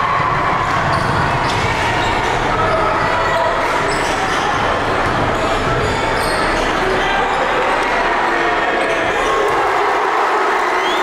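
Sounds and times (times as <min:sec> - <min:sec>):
crowd chatter: 0:00.0 - 0:11.0.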